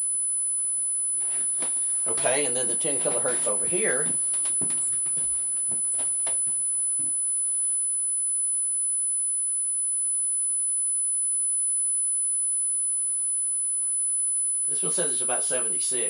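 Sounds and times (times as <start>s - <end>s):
high-pitched sine test tone: 0.0s - 16.0s.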